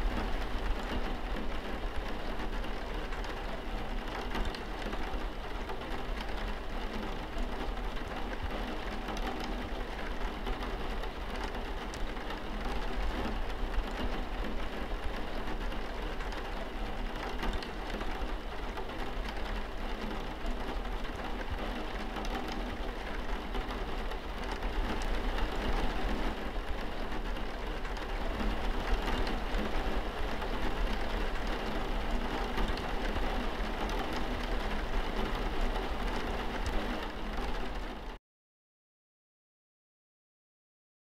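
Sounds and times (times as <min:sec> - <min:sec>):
heavy rain: 0:00.0 - 0:38.2.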